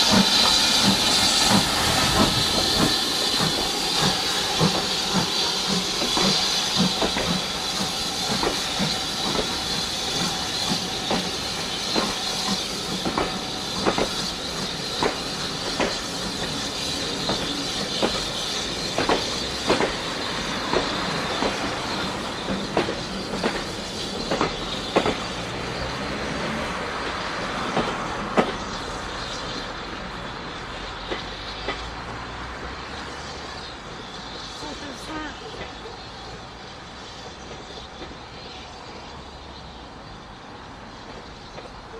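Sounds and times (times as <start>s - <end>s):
coach wheels clicking over rail joints: 0.0s - 41.9s
steam locomotive hissing: 0.0s - 41.9s.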